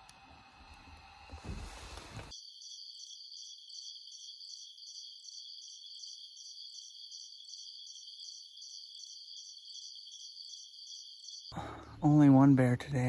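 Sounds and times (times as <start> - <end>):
crickets chirping: 1.0 - 12.0.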